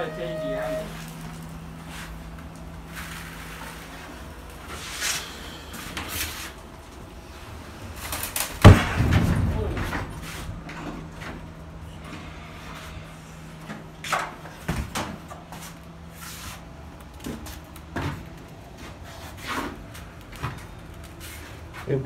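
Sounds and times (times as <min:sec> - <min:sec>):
electric forklift humming: 0:00.0 - 0:21.8.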